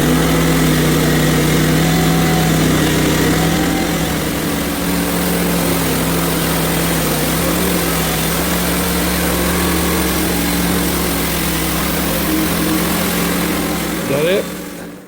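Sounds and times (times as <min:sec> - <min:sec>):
band blade sawing log: 0:00.0 - 0:14.9
sawmill engine under load: 0:00.0 - 0:15.0.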